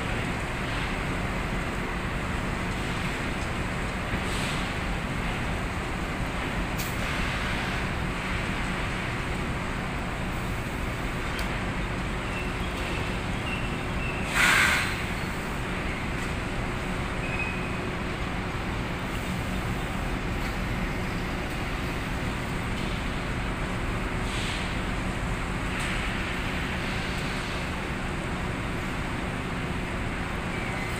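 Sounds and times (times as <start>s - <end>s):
conveyor machinery humming: 0.0s - 30.9s.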